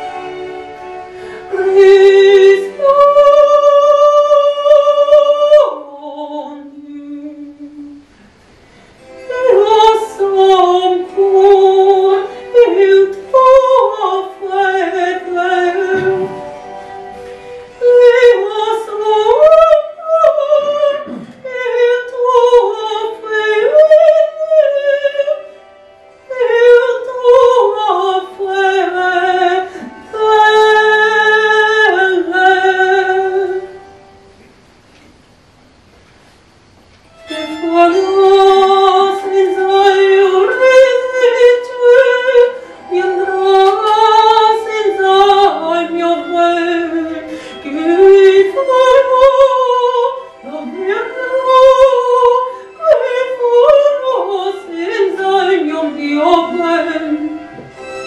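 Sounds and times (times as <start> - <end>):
countertenor singing with vibrato: 0.0 - 8.3, 9.0 - 34.4, 37.1 - 58.0.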